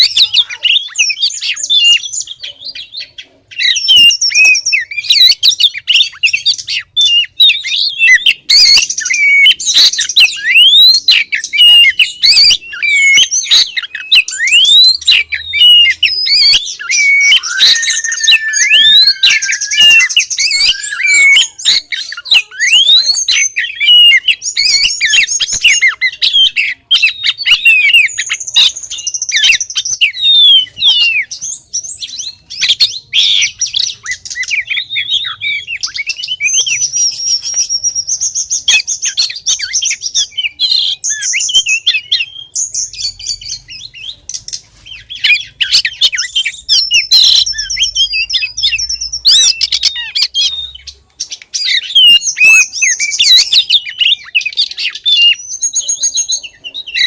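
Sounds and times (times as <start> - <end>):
bird singing whistled notes and trills: 0.0 - 57.0.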